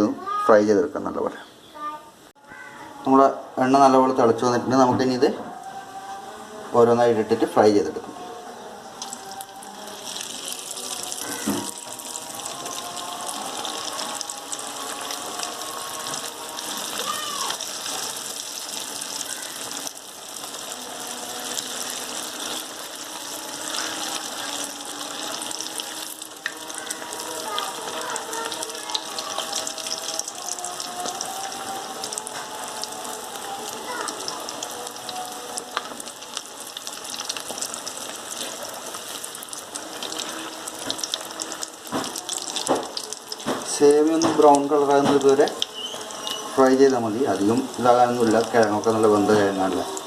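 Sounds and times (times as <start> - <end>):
food deep-frying in hot oil: 8.9 - 50.0.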